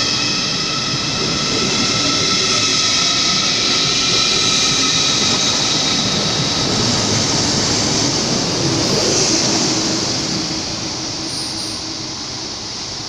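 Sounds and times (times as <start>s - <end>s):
high-pitched whining tones: 0.0s - 13.0s
train rushing noise: 0.0s - 13.0s.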